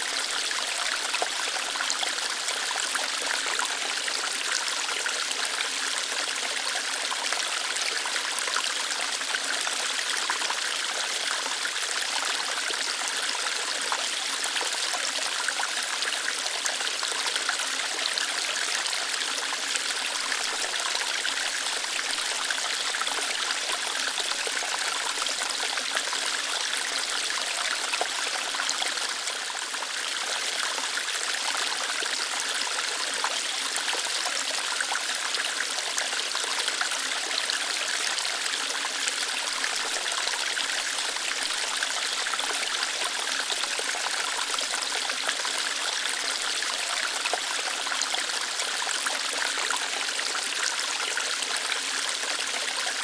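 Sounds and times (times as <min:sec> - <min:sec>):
water running over rocks: 0:00.0 - 0:53.0.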